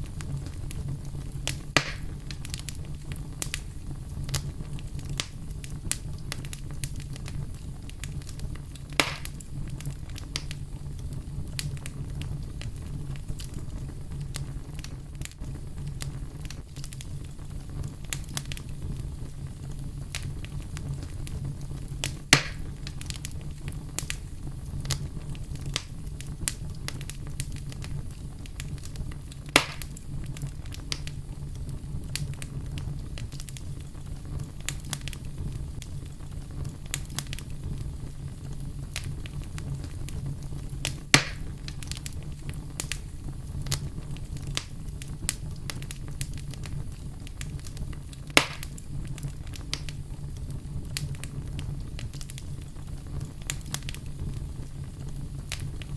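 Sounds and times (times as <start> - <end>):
fire popping: 0.0 - 55.9
low rumble of flames: 0.0 - 55.9
wood fire crackling: 0.0 - 55.9.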